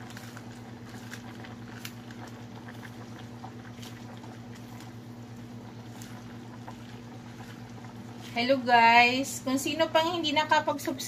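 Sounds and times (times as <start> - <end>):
soup bubbling in a pot: 0.0 - 10.9
steady low hum: 0.0 - 11.0.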